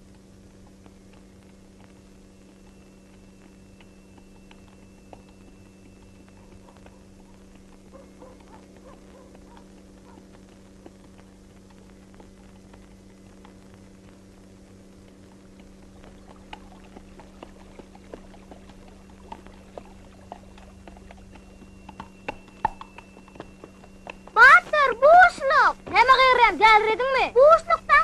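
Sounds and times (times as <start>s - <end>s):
donkey hooves clopping on dirt: 0.0s - 28.0s
film soundtrack hum and hiss: 0.0s - 28.0s.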